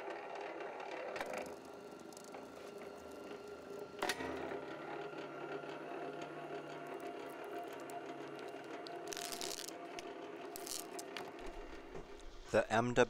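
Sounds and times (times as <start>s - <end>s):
wire stripper motor running: 0.0s - 12.5s.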